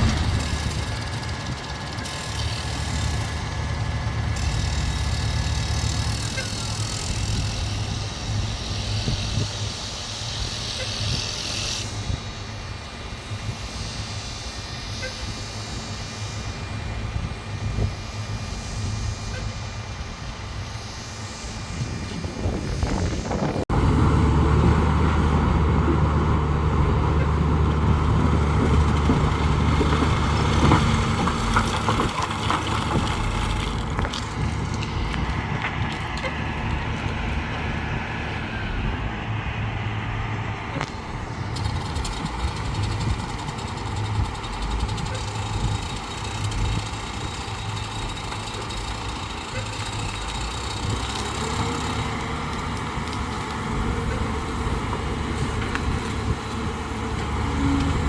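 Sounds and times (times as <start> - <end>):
diesel machinery engine running: 0.0 - 58.0.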